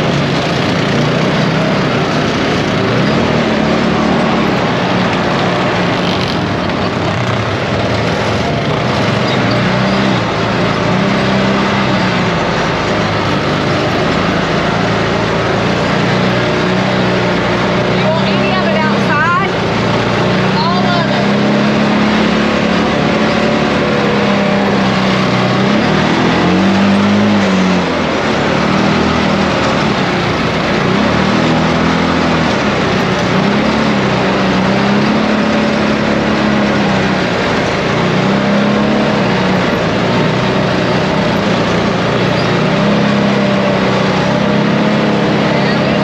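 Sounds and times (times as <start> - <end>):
atv engine revving: 0.0 - 46.0
steady rushing noise: 0.0 - 46.0.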